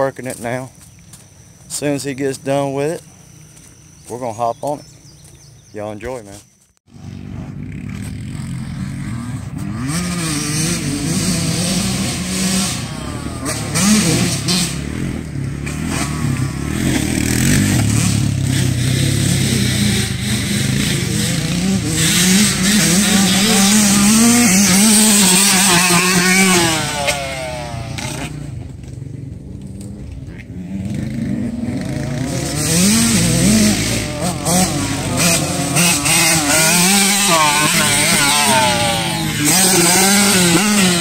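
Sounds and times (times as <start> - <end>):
off-road engines revving: 0.0 - 41.0.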